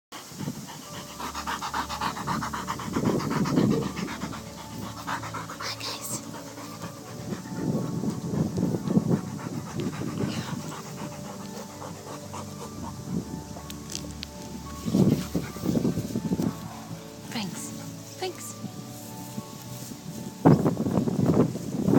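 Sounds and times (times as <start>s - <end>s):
dog panting rapidly: 0.1s - 13.8s, 14.6s - 18.6s.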